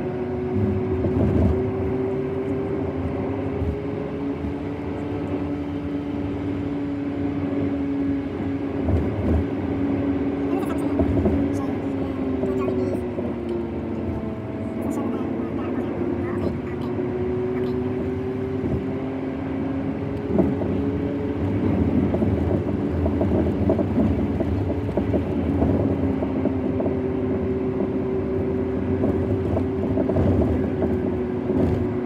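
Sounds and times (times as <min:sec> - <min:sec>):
car engine and road drone: 0:00.0 - 0:32.0.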